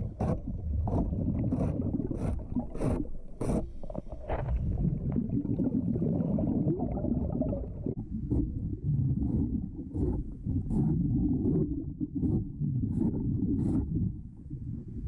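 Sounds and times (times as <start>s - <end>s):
muffled underwater rumble and gurgling: 0.0s - 15.0s
scraping boat hull underwater: 0.0s - 15.0s.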